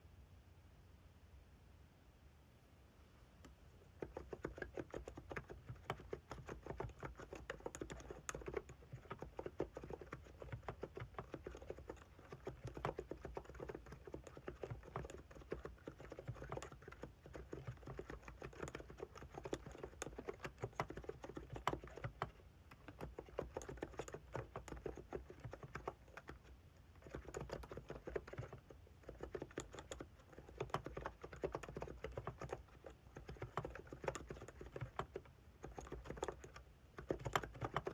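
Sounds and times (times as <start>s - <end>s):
soft keyboard typing: 3.4s - 37.9s.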